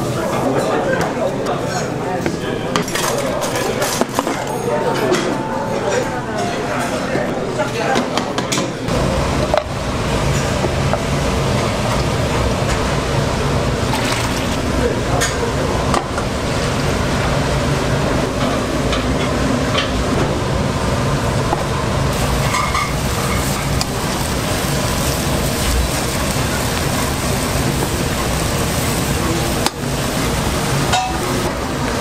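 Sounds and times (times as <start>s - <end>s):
restaurant kitchen cooking noise: 0.0s - 32.0s.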